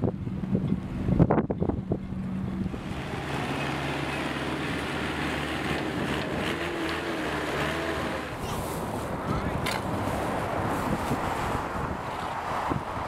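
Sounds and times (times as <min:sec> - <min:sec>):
vehicle engines humming: 0:00.0 - 0:13.0.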